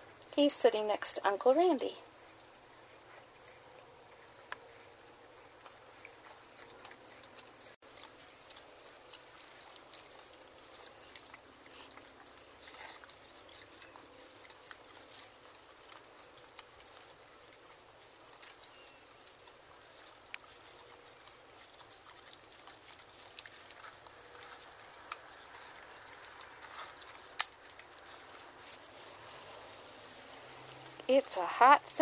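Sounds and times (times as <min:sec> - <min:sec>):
dogs licking and lapping: 0:00.0 - 0:32.0.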